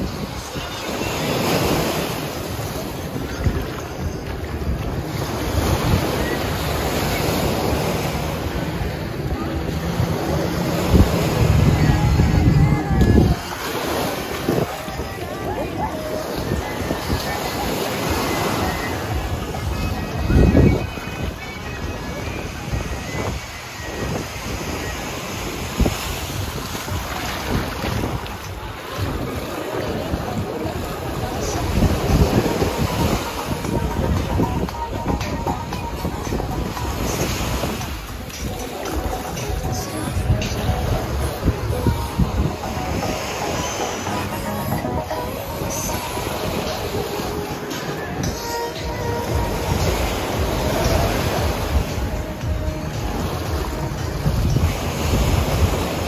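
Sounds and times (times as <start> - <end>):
surf washing on beach: 0.0 - 56.0
wind buffeting microphone: 0.0 - 56.0.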